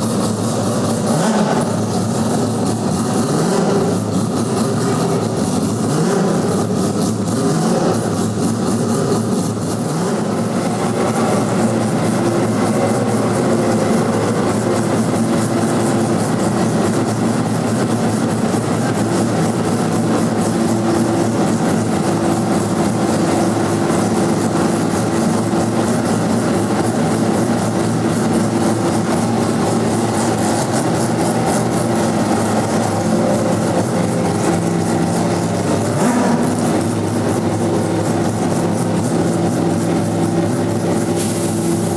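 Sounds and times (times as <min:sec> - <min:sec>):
rotary racing engine running: 0:00.0 - 0:41.9.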